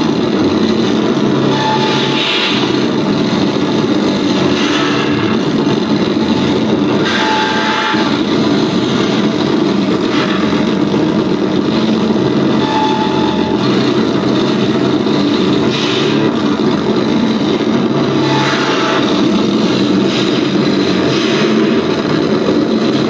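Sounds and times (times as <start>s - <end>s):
electronic noise drone: 0.0s - 23.0s.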